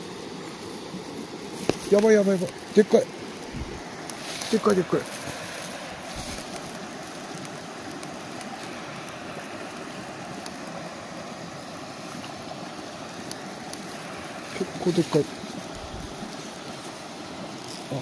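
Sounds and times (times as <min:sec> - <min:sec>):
shallow stream rushing: 0:00.0 - 0:18.0.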